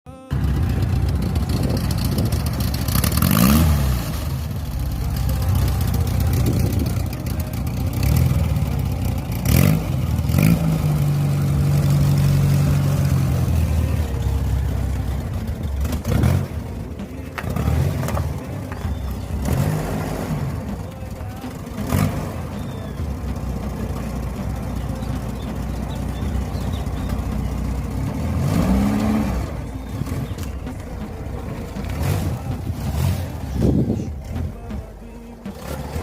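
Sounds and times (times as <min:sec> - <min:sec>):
car engine revving: 0:00.3 - 0:36.0
exhaust cracks: 0:00.3 - 0:36.0.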